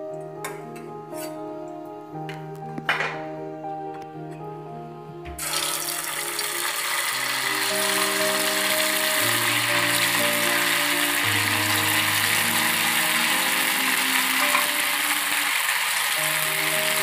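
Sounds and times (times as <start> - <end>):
background music with held notes: 0.0 - 17.0.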